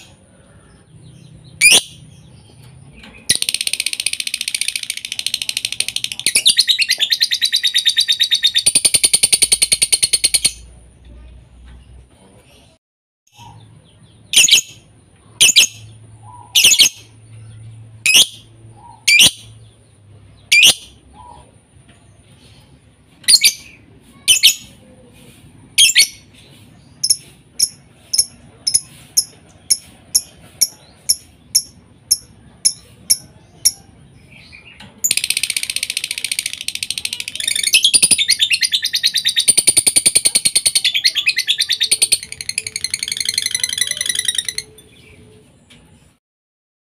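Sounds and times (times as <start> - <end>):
lovebirds calling: 0.0 - 11.8, 12.4 - 45.8.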